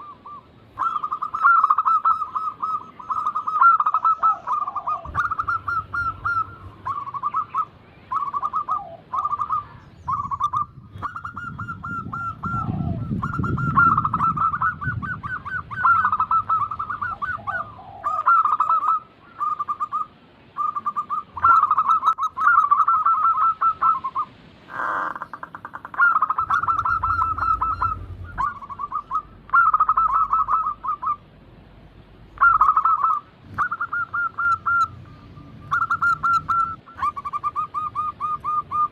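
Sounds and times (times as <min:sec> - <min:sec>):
doves cooing: 0:00.0 - 0:31.3, 0:32.3 - 0:38.9.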